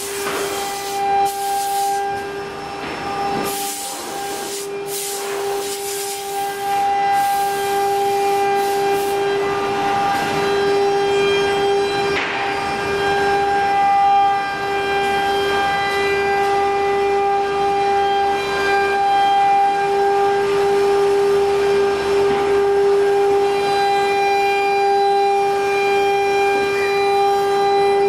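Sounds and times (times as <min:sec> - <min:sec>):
wood router whining: 0:00.0 - 0:28.0.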